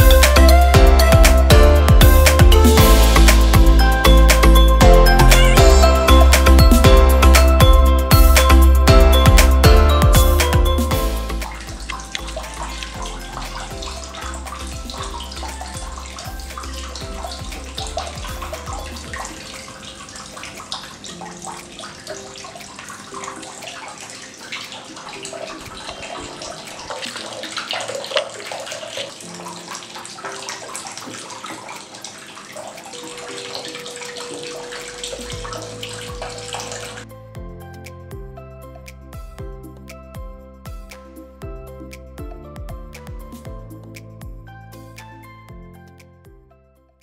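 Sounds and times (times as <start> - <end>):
fountain water trickling: 0.0 - 37.9.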